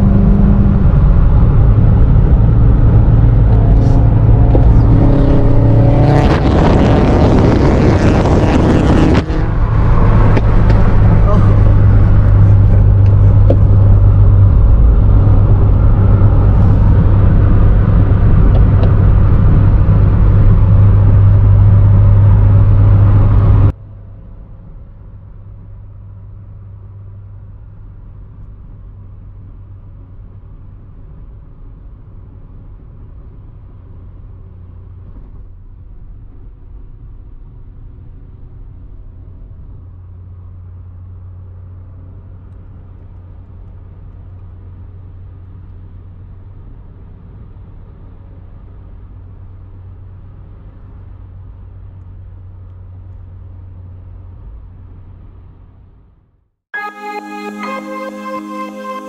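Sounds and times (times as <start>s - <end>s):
car engine and road drone: 0.0s - 59.0s.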